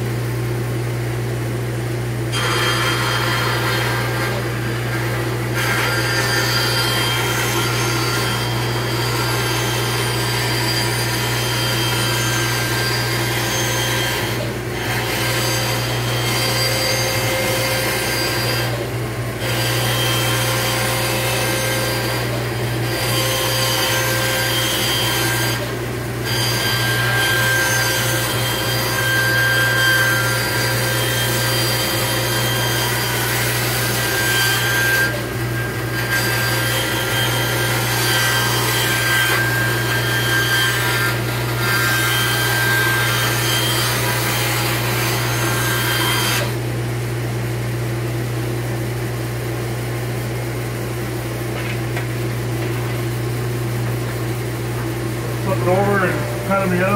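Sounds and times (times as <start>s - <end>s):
dust collector humming: 0.0s - 56.9s
band saw cutting wood: 2.3s - 46.7s, 52.8s - 56.9s.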